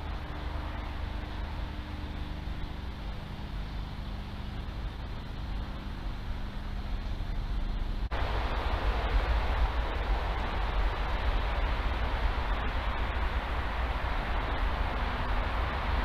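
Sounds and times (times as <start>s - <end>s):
faint hum: 0.0s - 16.0s
low rumbling background noise: 0.0s - 16.0s.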